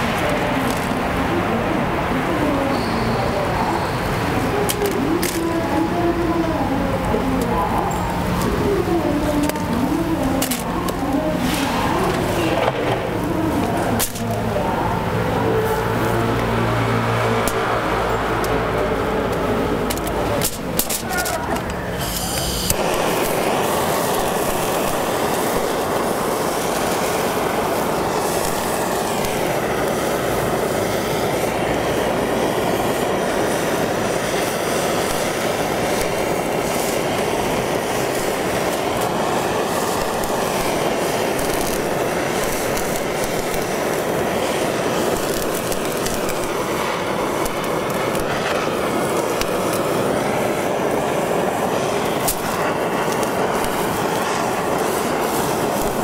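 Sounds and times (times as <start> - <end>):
butane torch flame hissing: 0.0 - 56.0.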